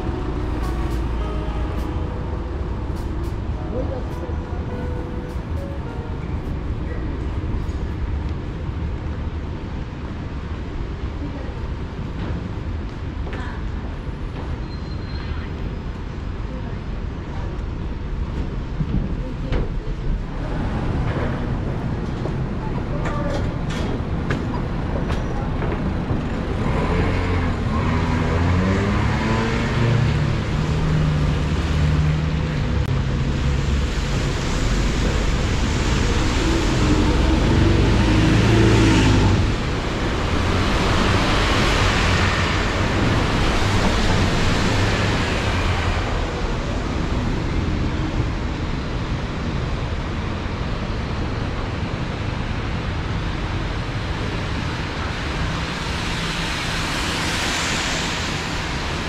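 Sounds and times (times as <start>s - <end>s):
engine drone of passing vehicles: 0.0s - 18.8s, 20.3s - 59.0s.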